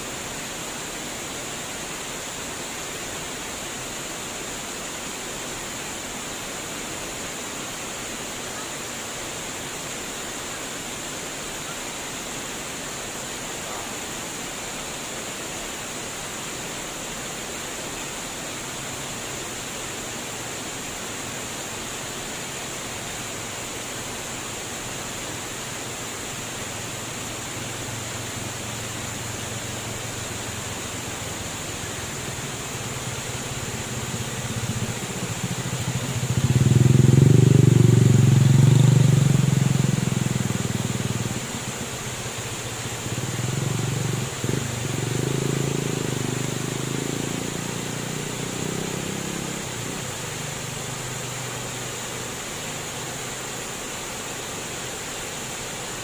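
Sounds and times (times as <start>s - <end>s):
flowing water rushing: 0.0s - 56.0s.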